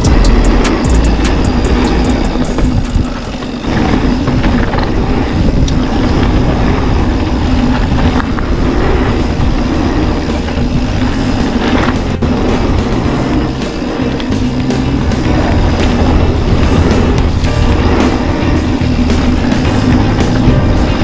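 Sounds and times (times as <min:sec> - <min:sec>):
bike rattling and clicking: 0:00.0 - 0:21.0
tyres rumbling on gravel: 0:00.0 - 0:21.0
wind on microphone: 0:00.0 - 0:21.0.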